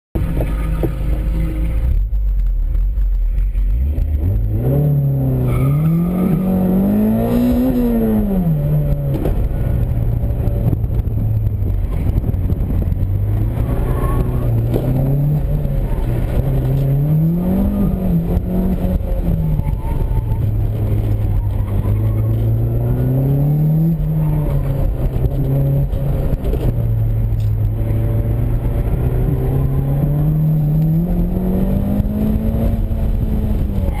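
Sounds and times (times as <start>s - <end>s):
car engine revving: 0.2s - 34.0s.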